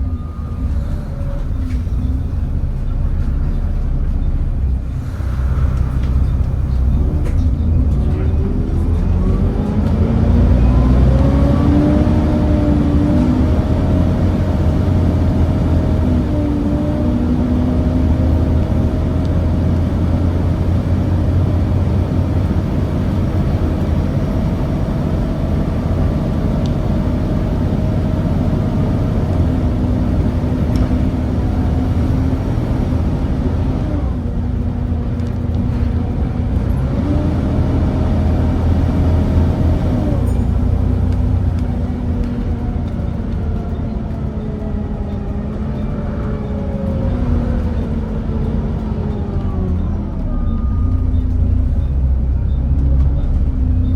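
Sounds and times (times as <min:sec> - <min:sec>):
bus engine rumbling with whine: 0:00.0 - 0:53.9.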